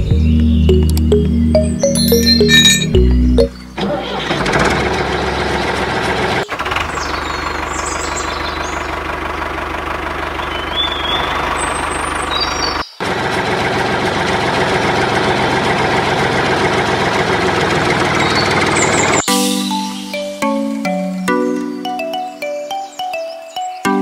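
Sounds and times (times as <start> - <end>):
tractor engine running: 0.0 - 19.2.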